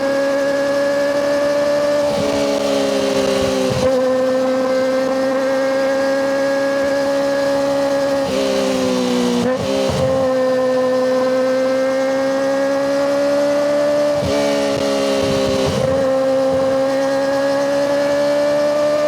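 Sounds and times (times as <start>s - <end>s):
motorcycle engine high-pitched wail: 0.0s - 19.0s.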